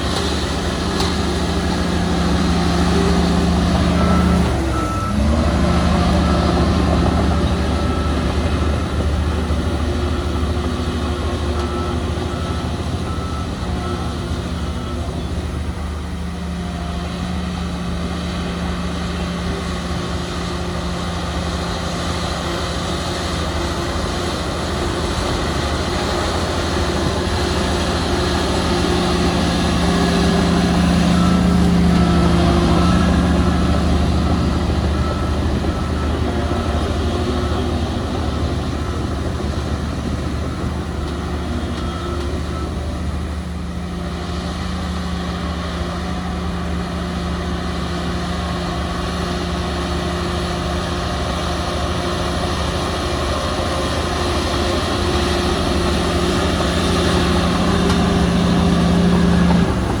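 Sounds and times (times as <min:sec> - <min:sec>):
diesel machinery engine droning: 0:00.0 - 1:00.0.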